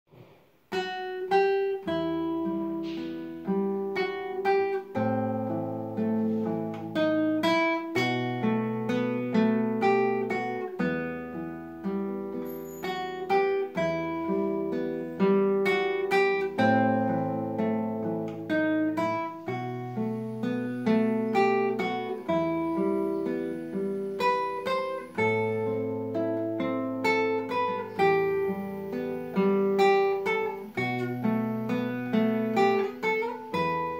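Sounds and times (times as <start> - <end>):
fingerpicked acoustic guitar: 0.1 - 33.9.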